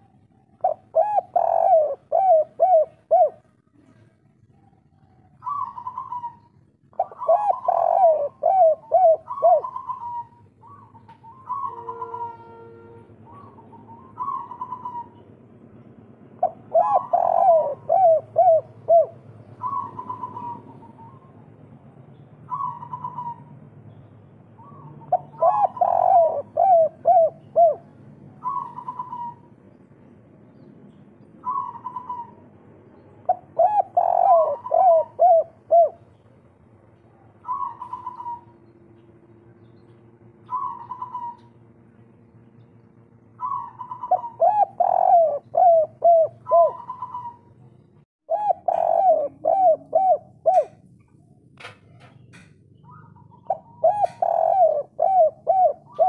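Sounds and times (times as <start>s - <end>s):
dove cooing: 0.0s - 15.4s, 16.3s - 21.6s, 22.5s - 23.6s, 24.6s - 29.8s, 31.4s - 32.6s, 33.2s - 36.2s, 37.3s - 39.1s, 40.0s - 41.6s, 43.4s - 51.1s, 52.3s - 56.0s.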